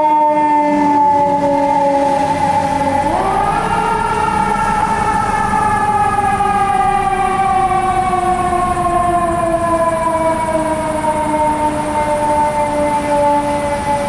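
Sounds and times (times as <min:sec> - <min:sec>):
mechanical siren winding down: 0:00.0 - 0:14.0
low truck rumble: 0:00.1 - 0:14.0.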